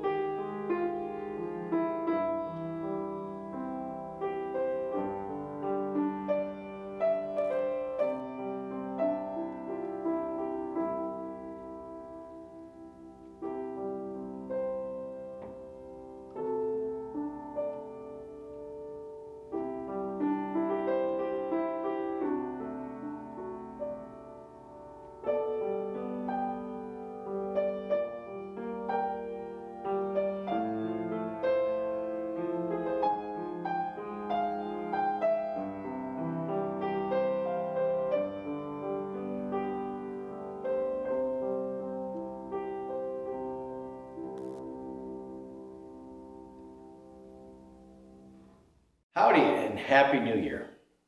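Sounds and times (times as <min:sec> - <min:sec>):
solo piano playing: 0:00.0 - 0:49.8.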